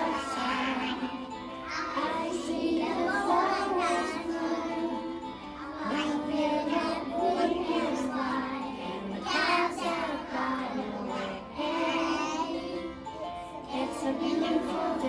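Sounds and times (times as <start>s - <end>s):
young voices singing: 0.0s - 15.0s.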